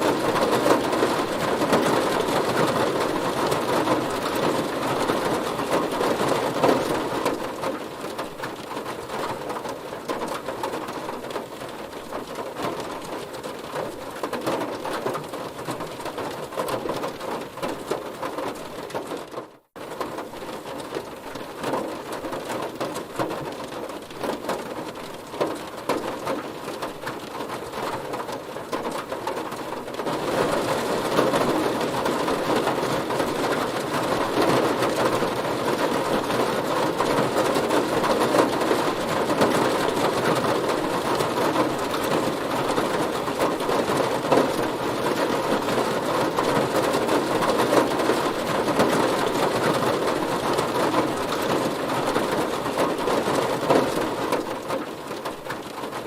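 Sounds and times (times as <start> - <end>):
heavy rain on car body: 0.0 - 56.0.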